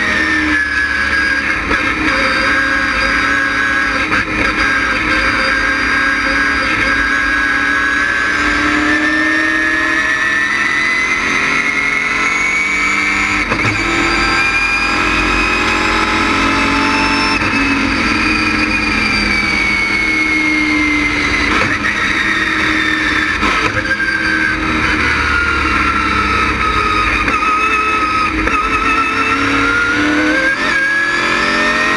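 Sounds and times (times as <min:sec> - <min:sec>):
v eight engine running hard: 0:00.0 - 0:31.9.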